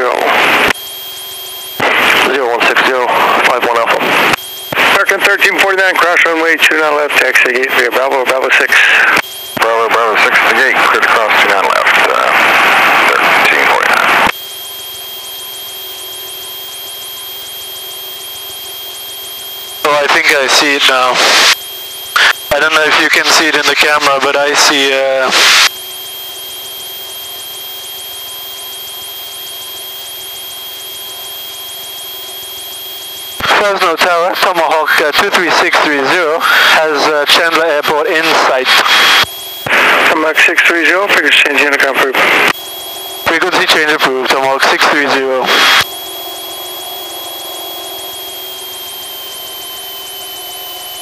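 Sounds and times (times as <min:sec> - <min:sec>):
aircraft engine and airflow noise: 0:00.0 - 0:13.3, 0:14.2 - 0:51.0
high-pitched whine: 0:00.0 - 0:51.0.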